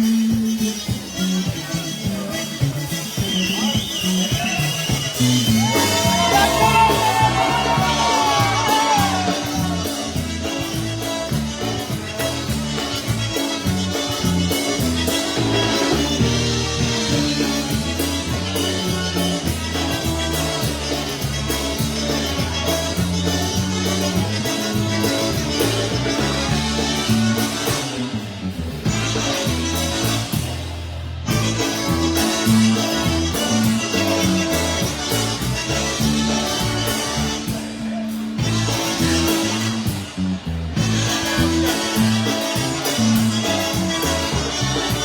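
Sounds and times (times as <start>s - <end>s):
polka band playing: 0.0s - 45.0s.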